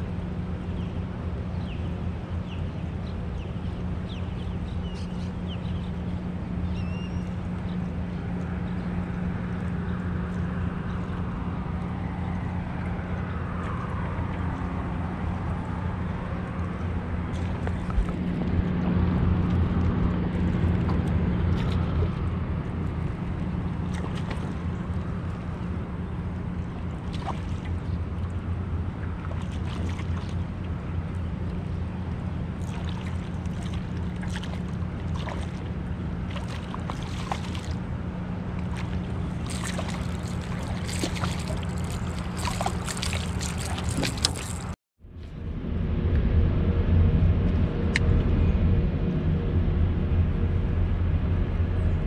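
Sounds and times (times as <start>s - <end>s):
small boat motor humming: 0.0s - 52.0s.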